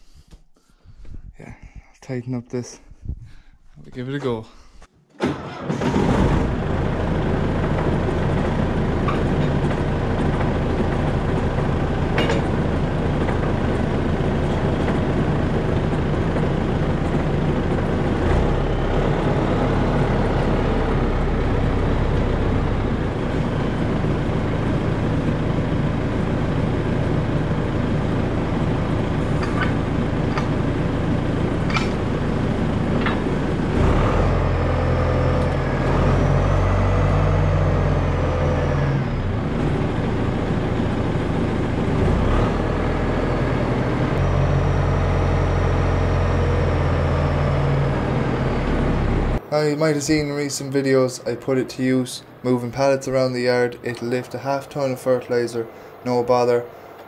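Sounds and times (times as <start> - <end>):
tractor diesel engine running: 5.3 - 57.0.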